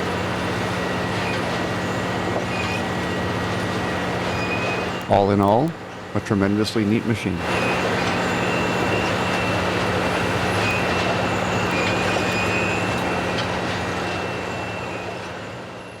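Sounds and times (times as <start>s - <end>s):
train machinery humming: 0.0s - 16.0s.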